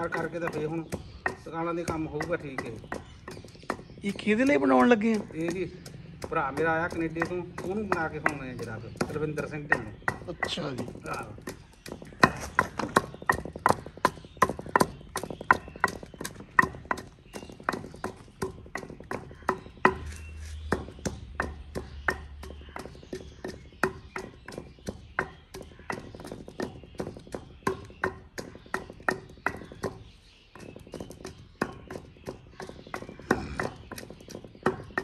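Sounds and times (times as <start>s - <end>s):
pestle pounding in mortar: 0.0s - 35.0s.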